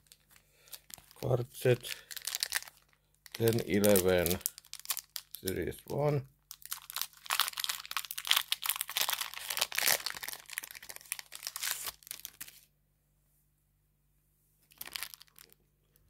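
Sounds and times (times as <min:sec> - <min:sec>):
wrapper tearing and crinkling: 0:00.0 - 0:05.9, 0:06.5 - 0:12.7, 0:14.7 - 0:15.6.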